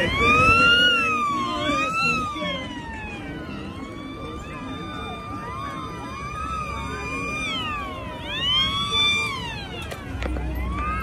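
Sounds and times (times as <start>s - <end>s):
electronic siren: 0.0s - 11.0s
street traffic: 0.0s - 11.0s.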